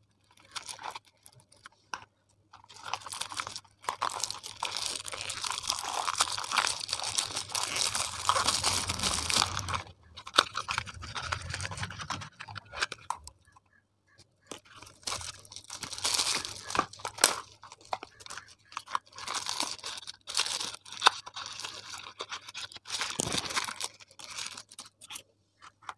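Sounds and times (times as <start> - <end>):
metallic gift wrap crinkling and tearing: 0.0 - 13.4, 14.5 - 25.9.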